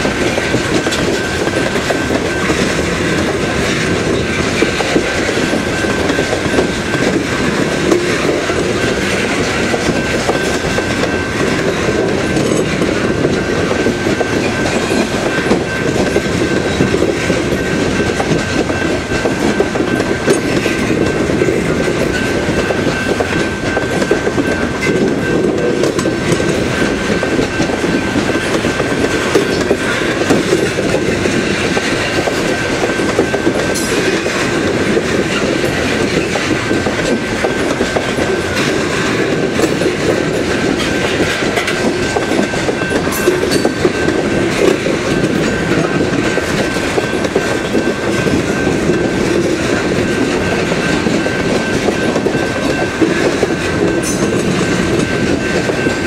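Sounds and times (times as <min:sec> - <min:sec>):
freight train rumbling: 0:00.0 - 0:56.0
wheels clacking over rail joints: 0:00.0 - 0:56.0.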